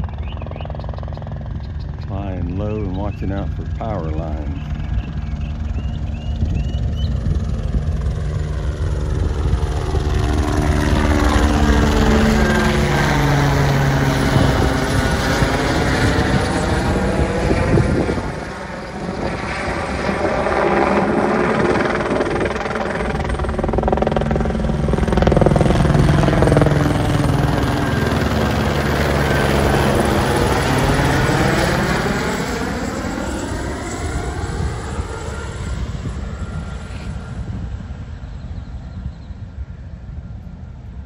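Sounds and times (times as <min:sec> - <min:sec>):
helicopter flying overhead: 0:00.0 - 0:41.0.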